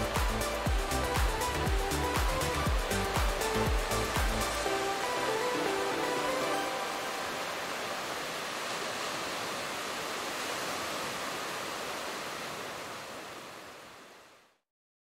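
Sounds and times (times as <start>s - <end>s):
waves breaking: 0.0s - 14.5s.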